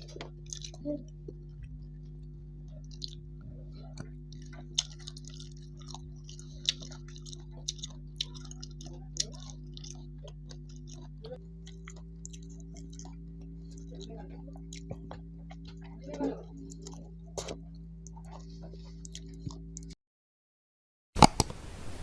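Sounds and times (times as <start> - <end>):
person chewing food: 0.0 - 20.0
steady low hum: 0.0 - 20.0.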